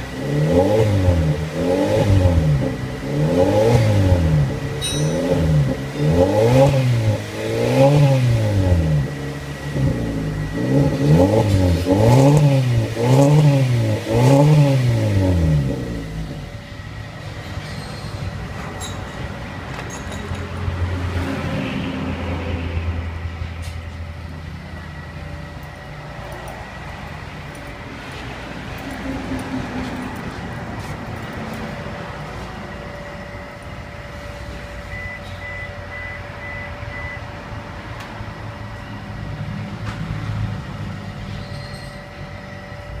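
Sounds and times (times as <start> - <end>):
car exhaust idling: 0.0 - 21.0, 22.8 - 43.0.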